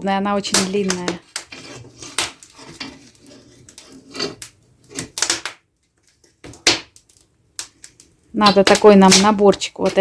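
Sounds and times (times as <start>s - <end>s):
wood fire popping: 0.0s - 10.0s.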